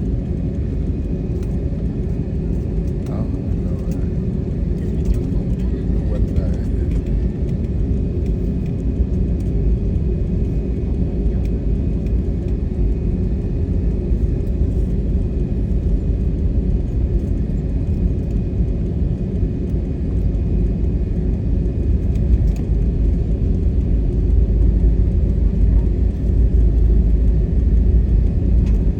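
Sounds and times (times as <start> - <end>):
low engine rumble: 0.0 - 28.9.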